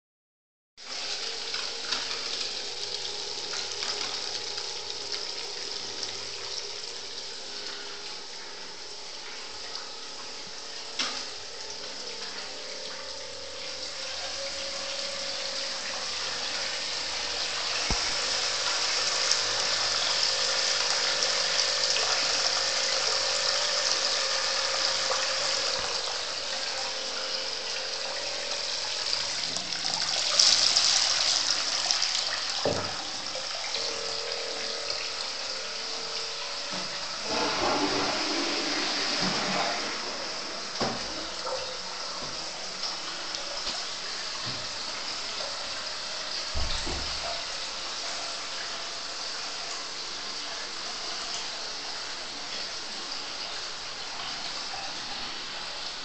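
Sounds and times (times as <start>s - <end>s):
water pouring into bathtub: 0.8s - 56.0s.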